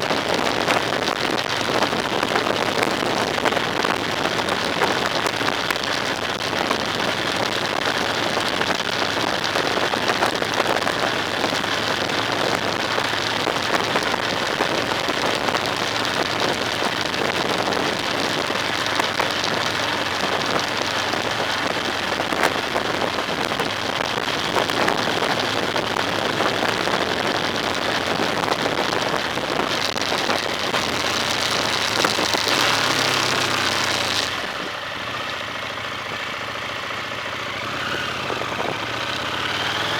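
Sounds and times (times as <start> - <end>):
dense crackling hiss: 0.0 - 39.9.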